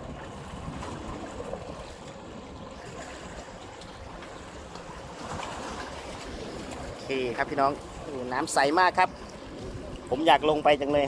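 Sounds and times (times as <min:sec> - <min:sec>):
sea wash: 0:00.0 - 0:11.0
wind rumble on microphone: 0:00.0 - 0:11.0.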